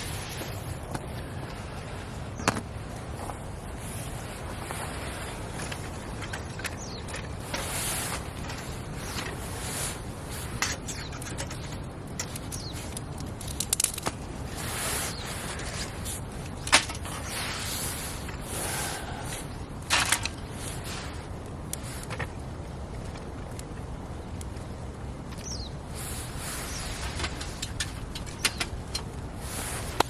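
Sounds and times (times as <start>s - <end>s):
fire hissing: 0.0s - 2.2s, 2.8s - 23.4s, 24.3s - 30.0s
campfire crackling and popping: 0.0s - 30.0s.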